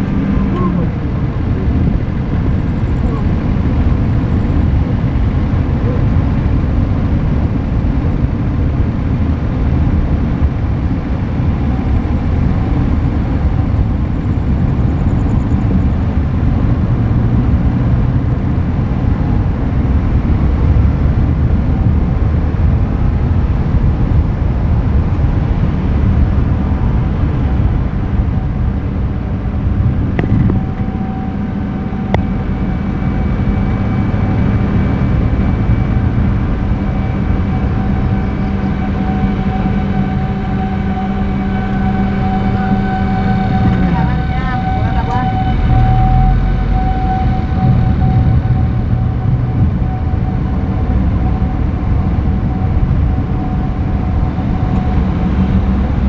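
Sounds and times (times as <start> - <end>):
tyres rumbling on asphalt: 0.0 - 56.0.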